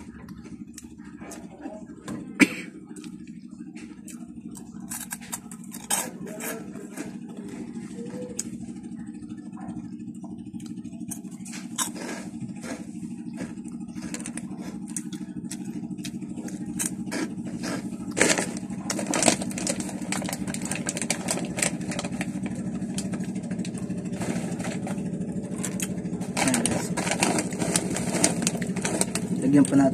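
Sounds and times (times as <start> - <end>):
low engine-like drone: 0.0 - 29.9
crunching prawn crackers: 2.8 - 29.9.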